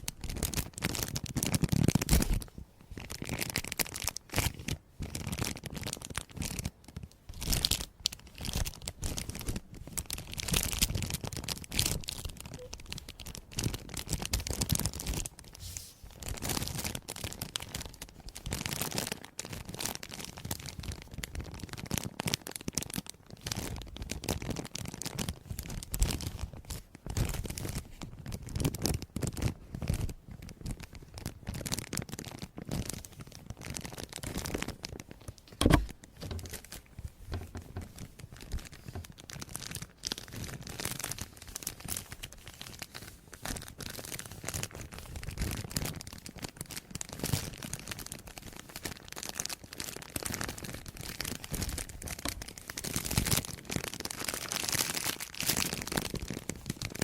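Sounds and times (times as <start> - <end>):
crisp crackling and crinkling: 0.0 - 57.0.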